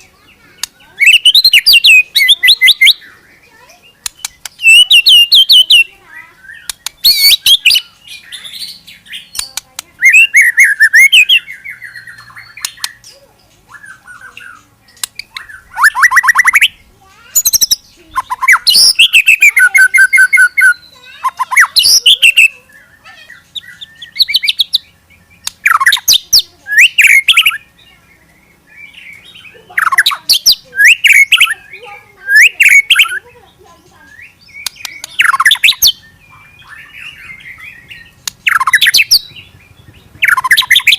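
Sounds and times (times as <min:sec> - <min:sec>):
songbird whistles and trills: 0:00.0 - 0:40.9.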